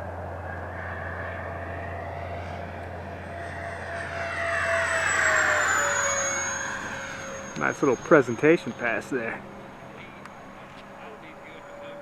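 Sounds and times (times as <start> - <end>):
electric ducted fan jet whine: 0.0 - 12.0.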